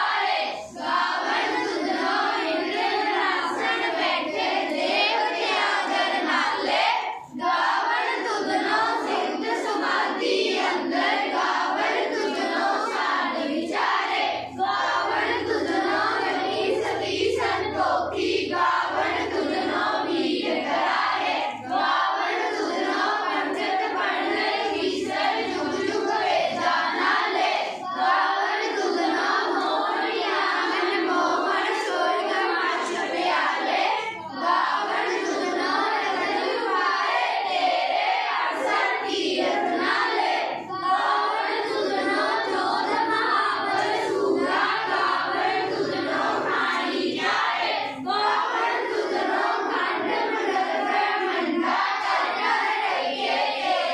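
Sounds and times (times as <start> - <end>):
children singing in unison: 0.0 - 53.9.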